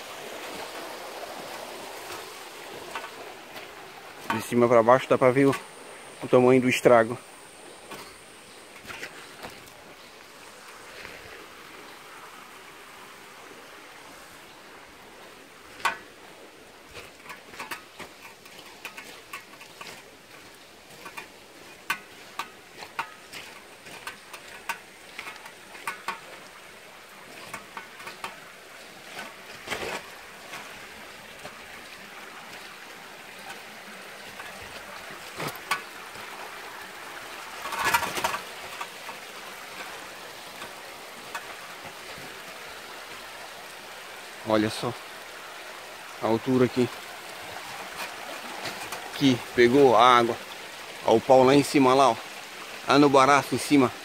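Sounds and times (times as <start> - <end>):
running water: 0.0 - 54.0
footsteps crunching over stones: 0.4 - 12.0, 14.1 - 44.1, 46.7 - 50.6.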